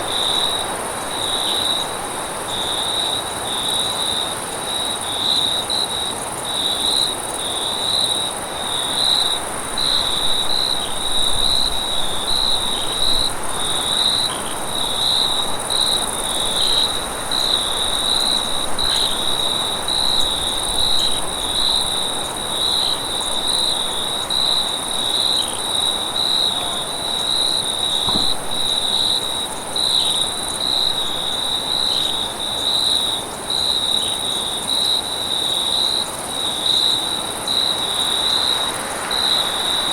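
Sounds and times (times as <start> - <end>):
crickets chirping: 0.0 - 39.9
high-pitched insect trill: 0.1 - 39.9.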